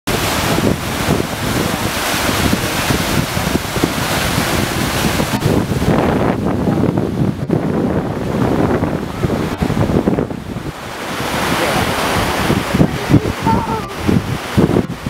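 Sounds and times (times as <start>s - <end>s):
river rushing: 0.1s - 15.0s
wind buffeting microphone: 0.1s - 15.0s.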